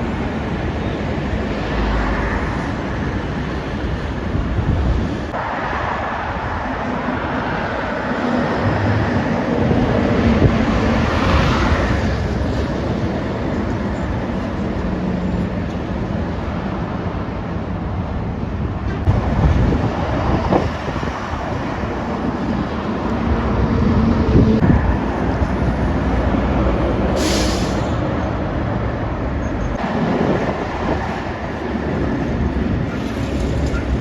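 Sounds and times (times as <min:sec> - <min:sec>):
wind buffeting microphone: 0:00.0 - 0:27.2, 0:27.9 - 0:34.0
heavy trucks passing: 0:00.0 - 0:34.0.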